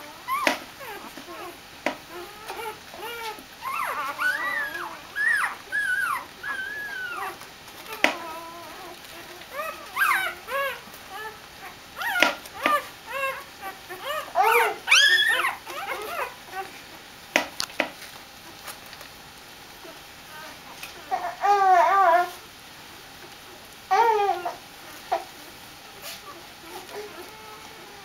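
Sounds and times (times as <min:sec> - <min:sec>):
puppies whimpering and squealing: 0:00.0 - 0:17.1, 0:19.8 - 0:28.0.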